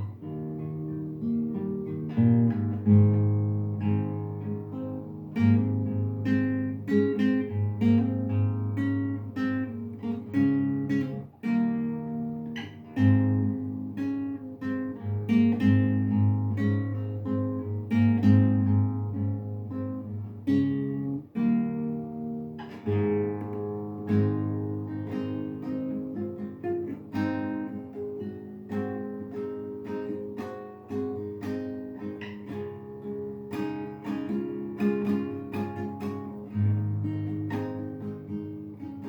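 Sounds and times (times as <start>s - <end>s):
acoustic guitar plucking: 0.0s - 39.0s.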